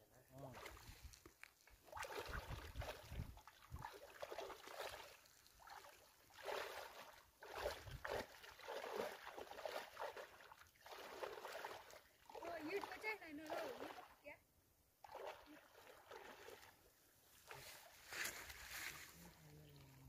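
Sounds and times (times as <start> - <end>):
water sloshing and splashing: 0.4 - 14.3, 15.0 - 18.9.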